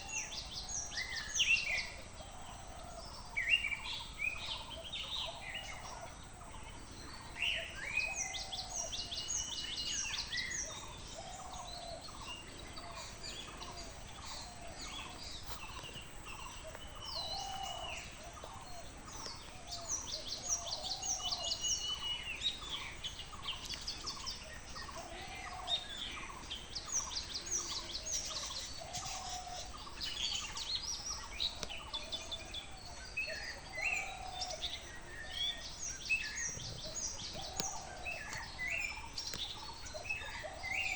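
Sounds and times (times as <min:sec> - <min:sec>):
low repeated bird call: 0:00.0 - 0:40.9.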